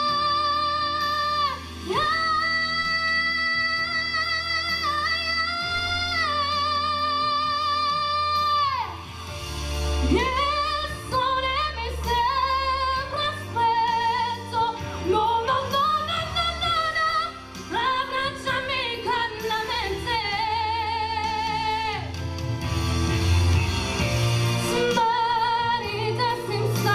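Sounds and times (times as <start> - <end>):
woman singing a ballad: 0.0 - 22.3, 24.6 - 26.9
backing track: 0.0 - 26.9.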